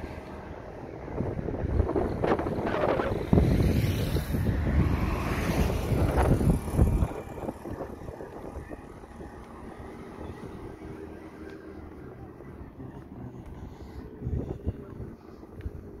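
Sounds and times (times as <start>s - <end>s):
faint outdoor background: 0.0s - 16.0s
wind buffeting microphone: 0.4s - 16.0s.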